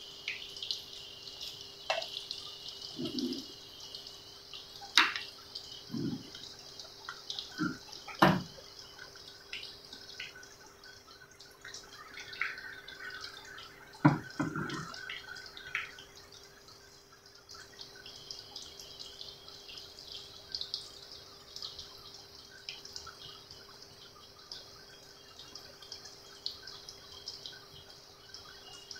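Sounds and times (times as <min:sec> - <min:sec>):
deep-frying sizzle with pops: 0:00.0 - 0:28.9
faint steady hum: 0:00.0 - 0:28.9.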